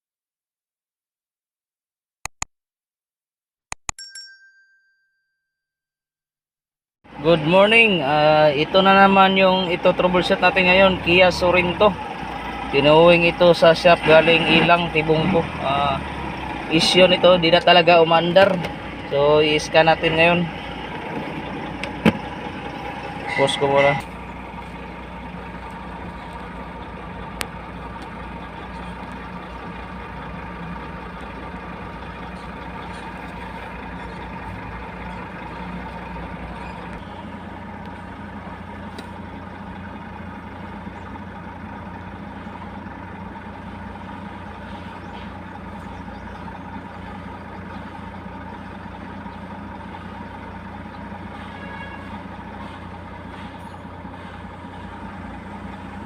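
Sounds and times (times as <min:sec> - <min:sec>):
engine-like hum: 0:07.0 - 0:56.0.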